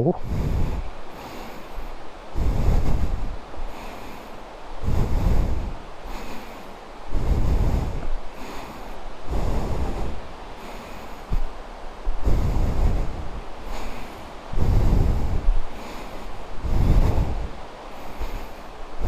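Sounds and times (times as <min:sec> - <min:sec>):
background hiss: 0:00.0 - 0:19.0
person breathing heavily: 0:00.0 - 0:19.0.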